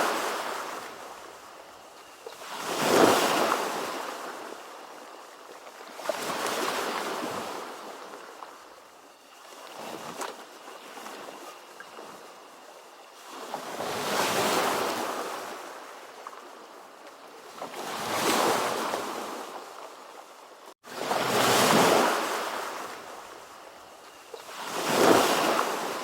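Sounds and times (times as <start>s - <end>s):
ocean waves breaking on shore: 0.0s - 8.7s, 9.4s - 16.8s, 17.4s - 23.4s, 24.2s - 26.0s.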